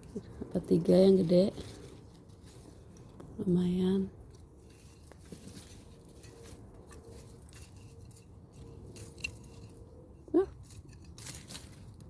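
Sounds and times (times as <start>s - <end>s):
soil rustling as hand digs: 0.0s - 12.0s.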